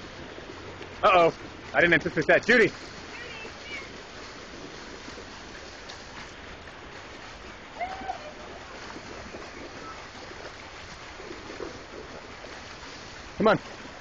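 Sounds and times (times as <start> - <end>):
fountain splashing into pool: 0.0 - 14.0.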